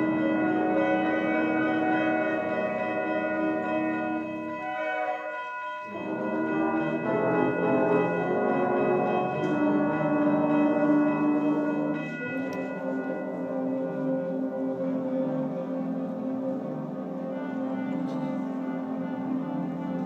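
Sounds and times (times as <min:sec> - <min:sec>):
piano chords: 0:00.0 - 0:20.0
wind band playing: 0:00.0 - 0:20.0.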